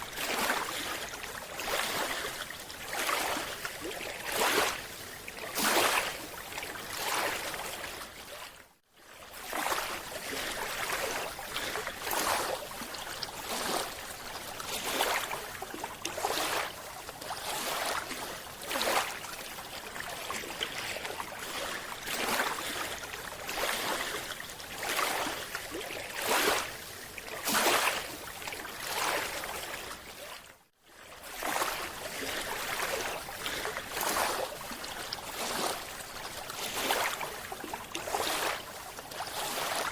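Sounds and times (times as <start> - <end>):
water surging and bubbling: 0.0 - 39.9.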